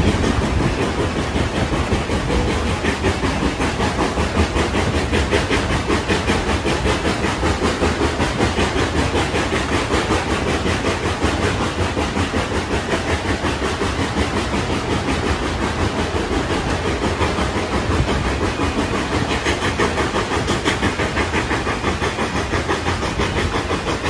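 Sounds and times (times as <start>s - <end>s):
steam locomotive exhaust chuffing: 0.0s - 24.0s
wheels rumbling on rails: 0.0s - 24.0s.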